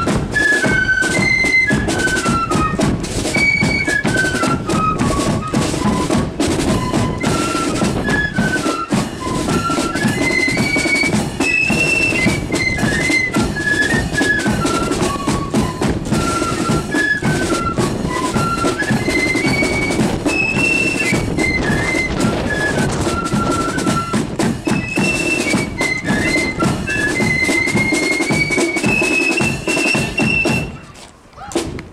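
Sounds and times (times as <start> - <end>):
flutes playing melody: 0.0 - 31.6
driving drums: 0.0 - 31.9.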